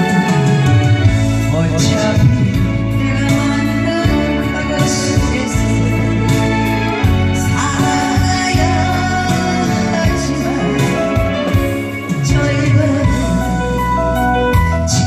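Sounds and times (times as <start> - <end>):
upbeat live band music: 0.0 - 15.0.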